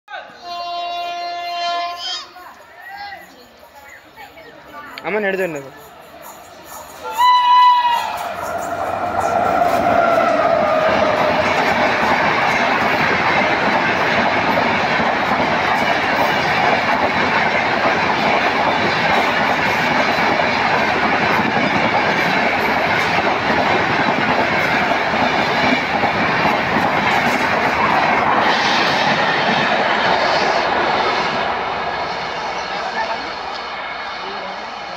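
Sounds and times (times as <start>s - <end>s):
train wheels rushing on rail: 1.1s - 34.9s.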